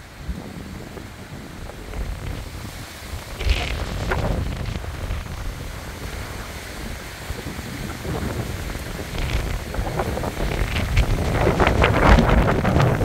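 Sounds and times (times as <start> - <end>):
gusty wind: 0.0 - 13.0
rain: 0.0 - 13.0
wind buffeting microphone: 0.0 - 13.0.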